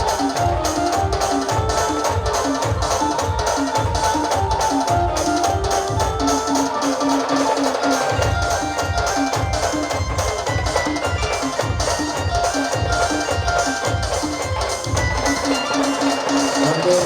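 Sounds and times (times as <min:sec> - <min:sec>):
band playing instrumental music: 0:00.0 - 0:17.0.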